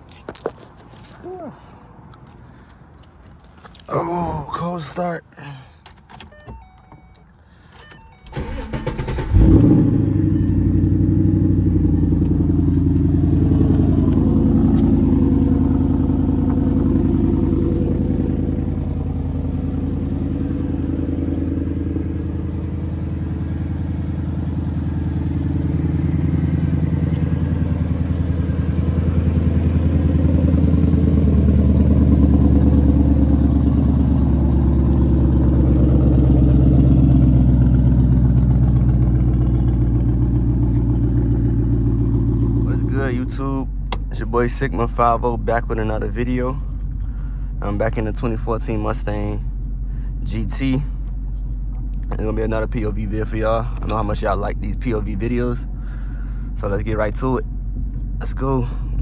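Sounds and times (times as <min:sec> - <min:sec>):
car engine starting and idling: 0:00.1 - 0:59.0.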